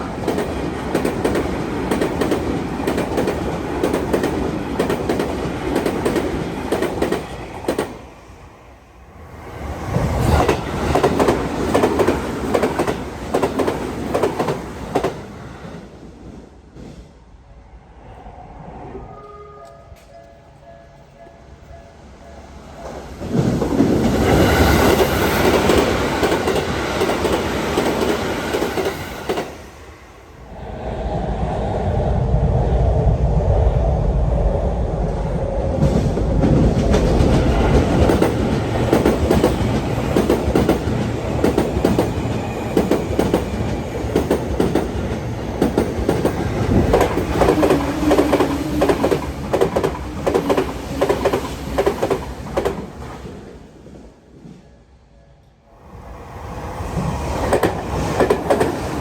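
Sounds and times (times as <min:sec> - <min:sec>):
electric train rumbling past: 0:00.0 - 0:59.0.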